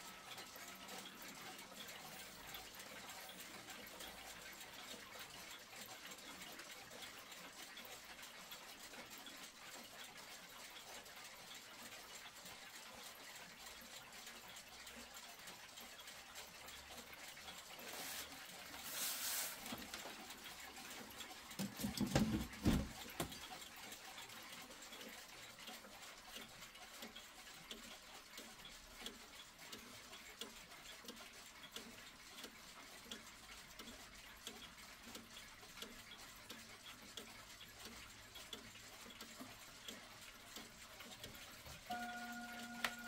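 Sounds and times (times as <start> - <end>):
pendulum clock ticking: 0.0 - 43.0.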